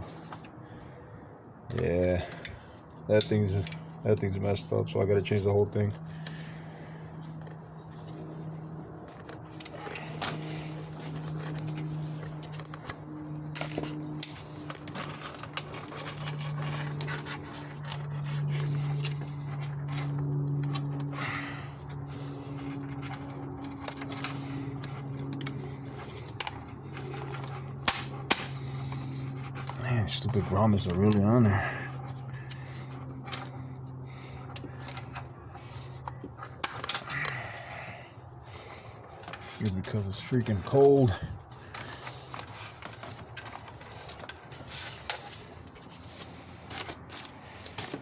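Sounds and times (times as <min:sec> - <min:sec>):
steady low hum: 0:00.0 - 0:48.0
light clicks and rubbing of parts: 0:01.7 - 0:48.0.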